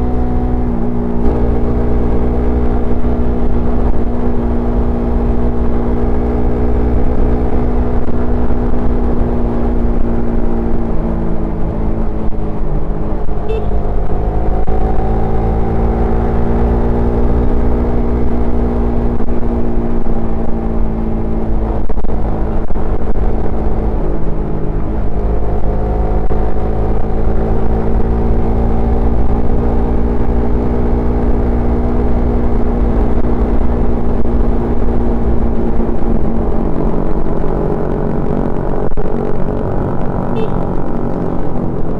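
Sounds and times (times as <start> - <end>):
motorcycle engine and exhaust: 0.0 - 41.9.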